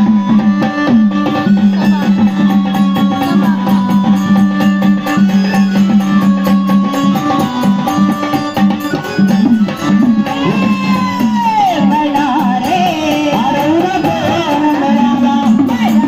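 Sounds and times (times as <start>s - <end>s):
hand drum rhythm: 0.0s - 16.0s
steady held notes: 0.0s - 16.0s.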